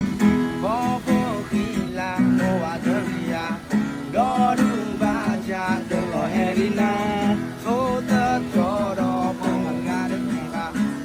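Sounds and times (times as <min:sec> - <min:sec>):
strummed acoustic guitar: 0:00.0 - 0:11.0
person singing: 0:00.4 - 0:11.0.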